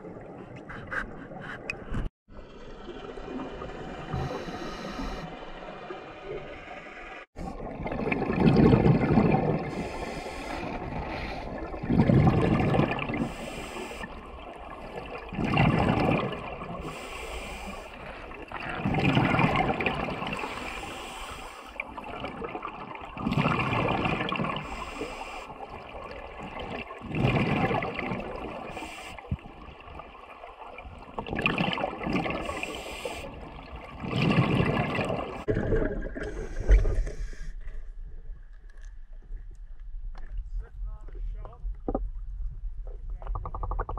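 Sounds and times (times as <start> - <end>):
underwater exhaled bubbles: 0.0 - 37.8.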